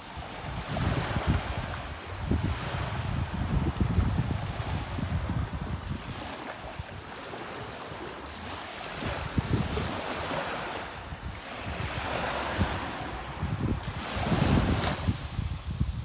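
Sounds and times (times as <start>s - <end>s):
small waves breaking ashore: 0.0s - 16.0s
wind gusting on microphone: 0.0s - 16.0s.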